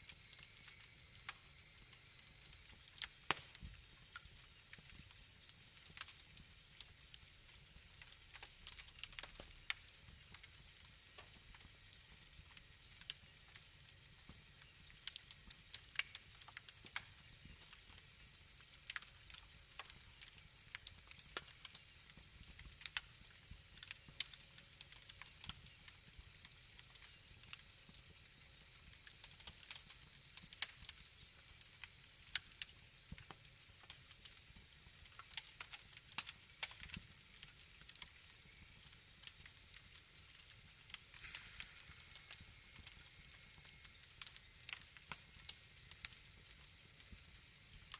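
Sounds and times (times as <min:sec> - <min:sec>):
faint steady hiss: 0:00.0 - 0:47.9
wood fire crackling: 0:00.0 - 0:47.9.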